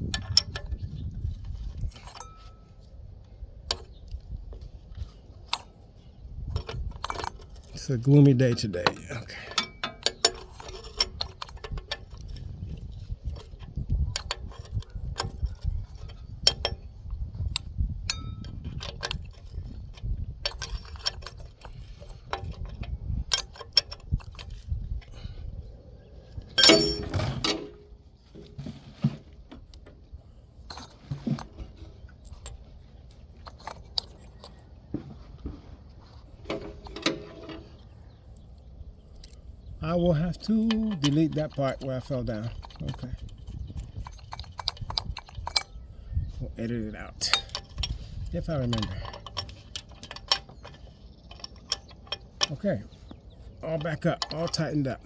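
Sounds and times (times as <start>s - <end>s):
metal tools clinking: 0.0s - 0.8s, 1.4s - 3.0s, 5.0s - 25.3s, 26.2s - 28.6s, 30.4s - 34.7s, 36.0s - 38.2s, 39.1s - 55.0s.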